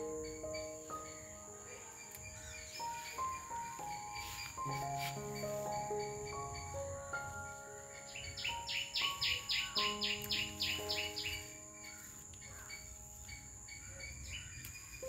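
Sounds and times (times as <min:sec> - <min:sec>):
bird chirping: 0:00.0 - 0:15.0
soft background music: 0:00.0 - 0:15.0.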